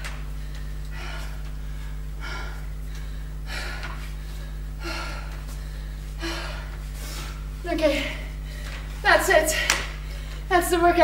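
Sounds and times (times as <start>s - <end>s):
woman breathing hard: 0.0s - 10.5s.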